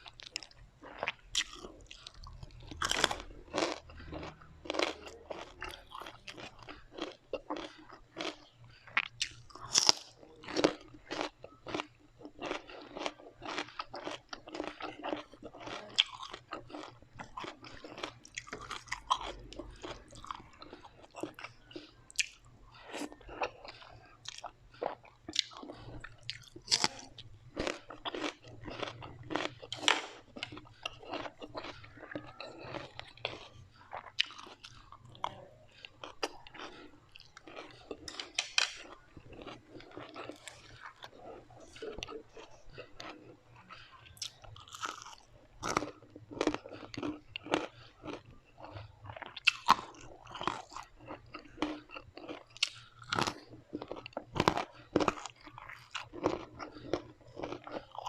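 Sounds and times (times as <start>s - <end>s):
chewing crispy food: 0.0s - 58.0s.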